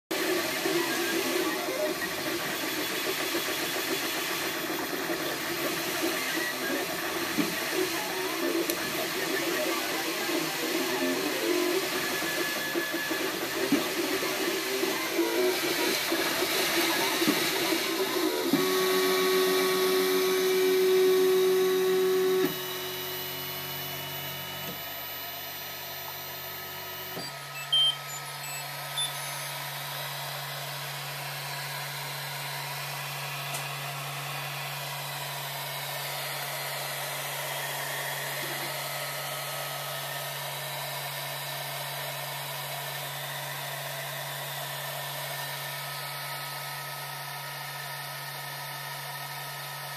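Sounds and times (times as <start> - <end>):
printer stepper motors whining: 0.1 - 49.9.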